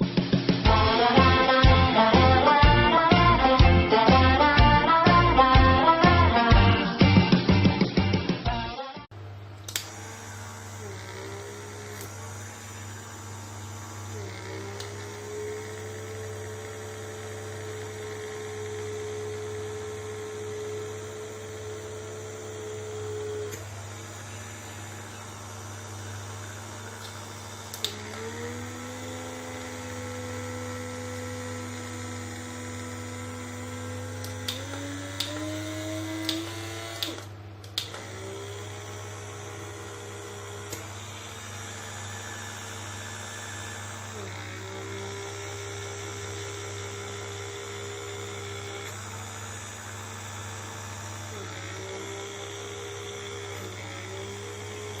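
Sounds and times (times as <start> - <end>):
small vacuum motor whining: 9.7 - 55.0.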